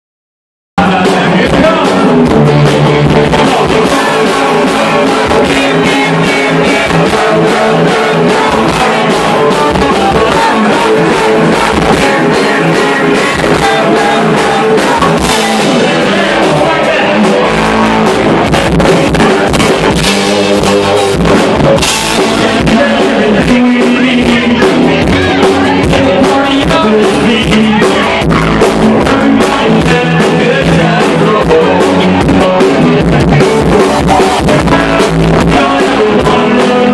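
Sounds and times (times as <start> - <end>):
drum kit: 0.8 - 36.9
electric guitar: 0.8 - 36.9
live band playing: 0.8 - 36.9
vocals: 0.8 - 36.9.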